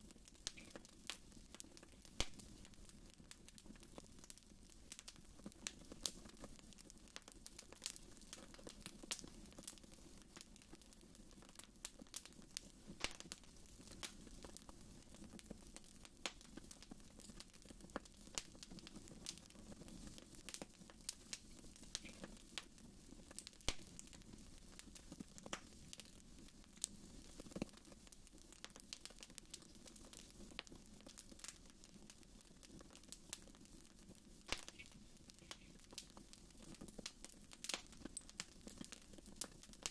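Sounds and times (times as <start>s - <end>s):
fire crackling and popping: 0.0s - 39.9s
low steady flame noise: 0.0s - 39.9s.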